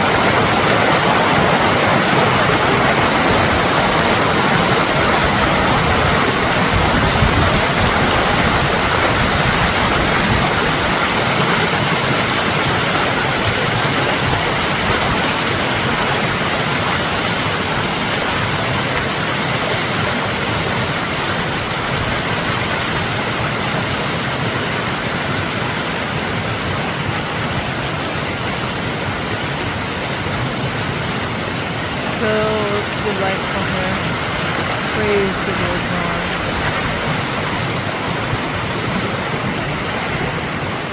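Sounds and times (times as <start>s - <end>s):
water rushing over rapids: 0.0s - 40.9s.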